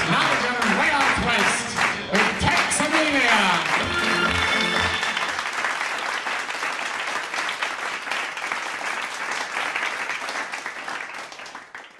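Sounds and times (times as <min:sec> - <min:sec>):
audience applause: 0:00.0 - 0:11.9.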